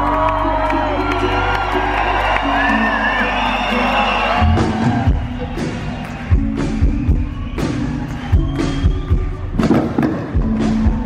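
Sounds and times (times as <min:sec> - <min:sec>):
live band music through pa: 0:00.1 - 0:11.0.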